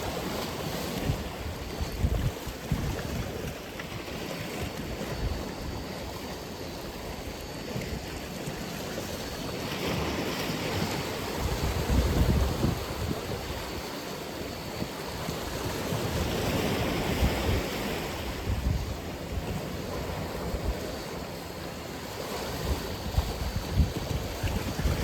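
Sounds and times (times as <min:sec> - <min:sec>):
wind buffeting microphone: 0:00.0 - 0:06.4, 0:07.0 - 0:25.0
waves breaking: 0:00.0 - 0:25.0.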